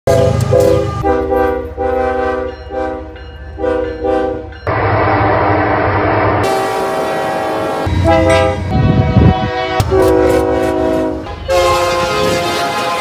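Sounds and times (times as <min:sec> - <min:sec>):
locomotive air horn blasts: 0:00.1 - 0:13.0.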